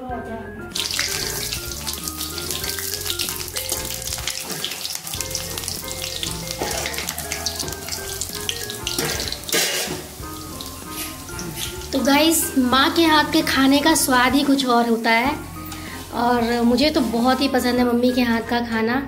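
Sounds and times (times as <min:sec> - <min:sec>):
food deep-frying in oil: 0:00.7 - 0:18.2.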